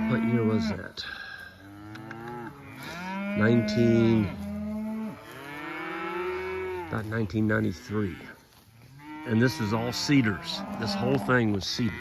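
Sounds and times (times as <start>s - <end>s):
cows mooing: 0.0s - 12.0s.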